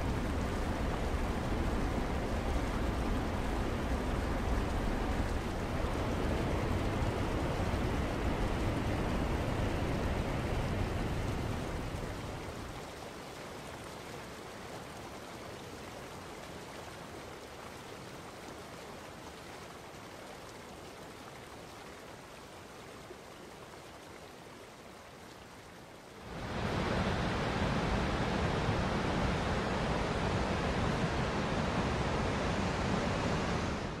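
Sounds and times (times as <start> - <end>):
rushing whitewater: 0.0 - 34.0.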